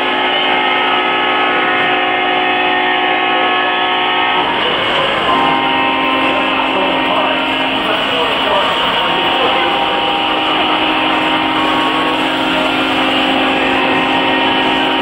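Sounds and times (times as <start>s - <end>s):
locomotive horn blast: 0.0s - 15.0s
steady background din: 0.0s - 15.0s.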